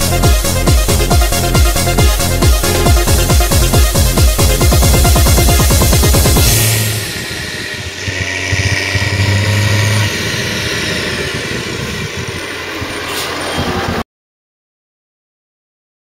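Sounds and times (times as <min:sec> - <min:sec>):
harvester diesel engine running: 0:00.0 - 0:14.0
tractor engine running: 0:00.0 - 0:14.0.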